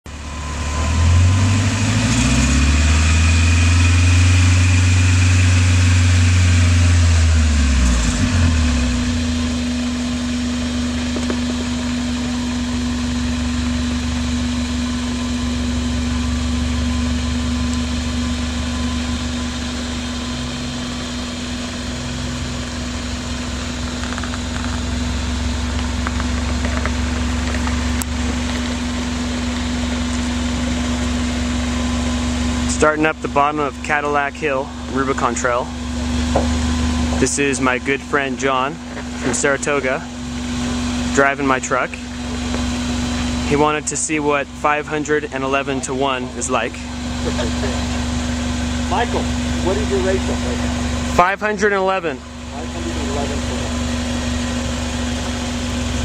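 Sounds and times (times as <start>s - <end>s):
truck engine revving and idling: 0.1s - 56.0s.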